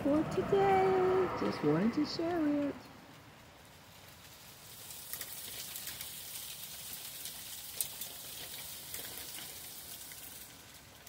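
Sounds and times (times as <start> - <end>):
hail hissing and ticking: 0.0 - 11.0.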